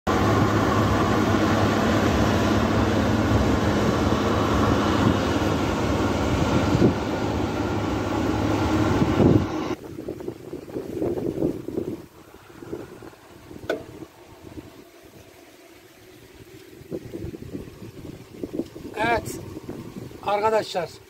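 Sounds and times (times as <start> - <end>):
combine harvester engine and threshing: 0.1 - 21.0.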